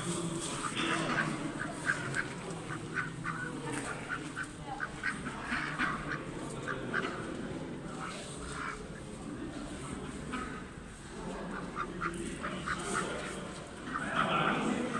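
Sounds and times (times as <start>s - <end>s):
ducks quacking: 0.0s - 9.1s, 9.8s - 14.9s.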